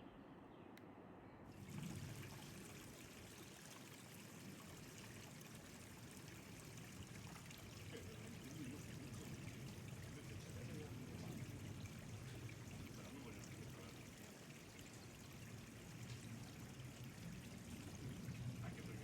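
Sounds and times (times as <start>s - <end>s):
water trickling: 1.5s - 19.0s.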